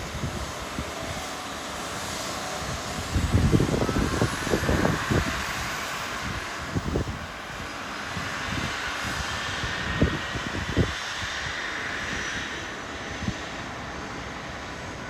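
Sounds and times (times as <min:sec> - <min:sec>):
wind buffeting microphone: 0:00.0 - 0:13.9
jet engines whining: 0:00.0 - 0:15.0.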